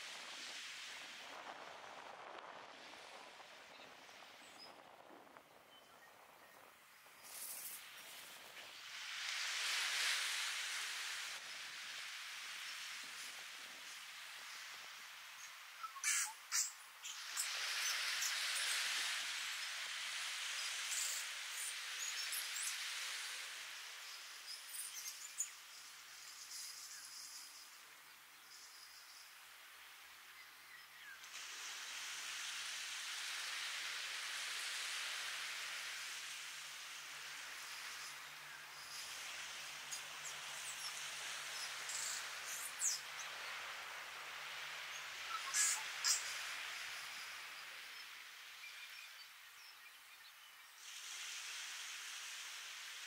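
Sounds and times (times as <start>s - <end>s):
ocean waves on sandy shore: 0.0s - 30.3s, 31.2s - 49.5s, 50.8s - 53.0s.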